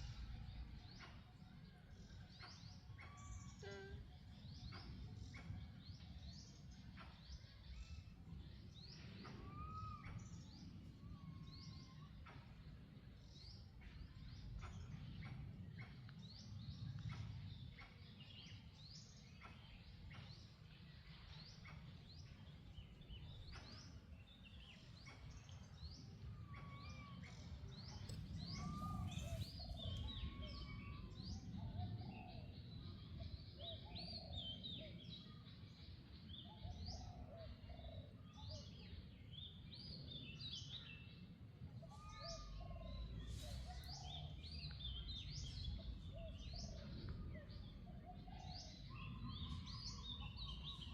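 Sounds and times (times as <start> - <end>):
steady low rumble: 0.0 - 2.1, 4.2 - 36.7, 42.6 - 50.9
birds chirping and calling: 2.3 - 50.9.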